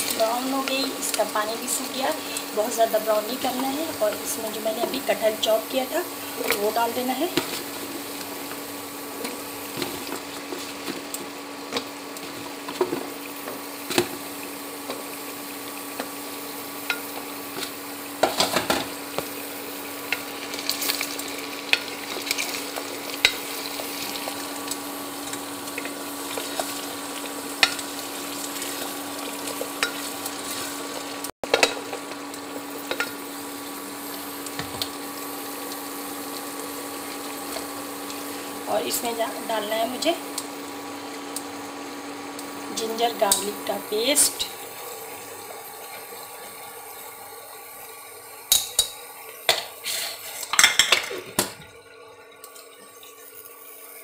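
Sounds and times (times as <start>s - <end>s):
food sizzling in a pot: 0.0s - 54.0s.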